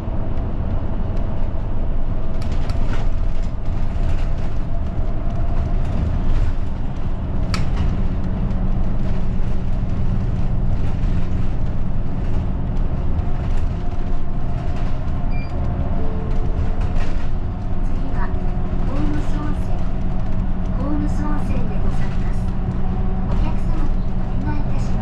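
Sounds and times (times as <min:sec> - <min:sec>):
bus engine and road rumble: 0:00.0 - 0:25.0
light rattles and clicks: 0:00.3 - 0:25.0.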